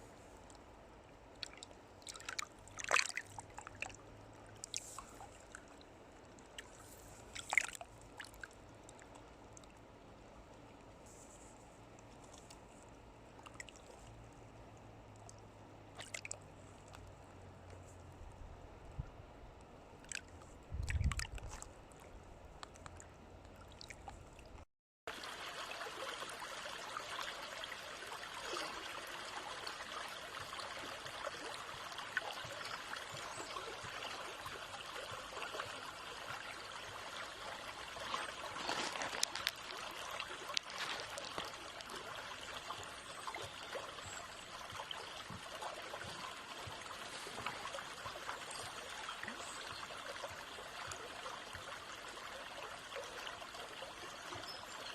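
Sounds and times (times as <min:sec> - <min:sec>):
stream trickling and babbling: 0:00.0 - 0:54.9.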